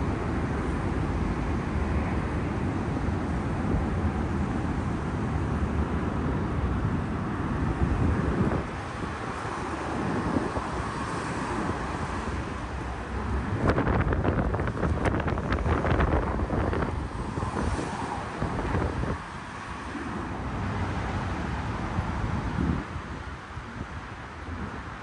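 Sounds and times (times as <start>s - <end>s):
road traffic rumble: 0.0s - 25.0s
wind buffeting the microphone: 0.0s - 25.0s.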